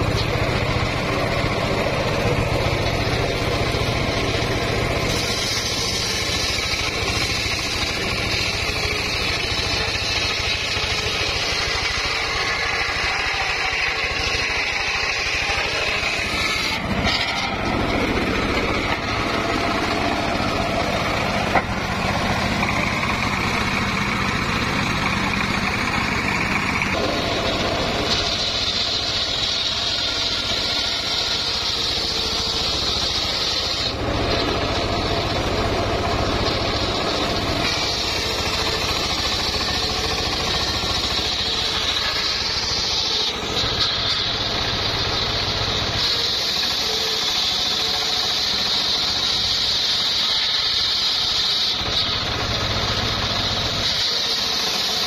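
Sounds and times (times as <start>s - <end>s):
engine-driven saw cutting logs: 0.0s - 55.0s.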